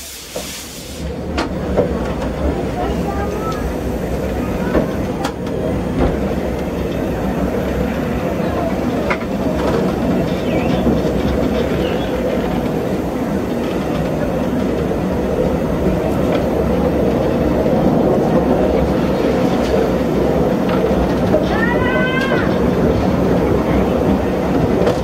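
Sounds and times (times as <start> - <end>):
steam locomotive running: 0.0 - 25.0
wheels on rails: 1.1 - 25.0.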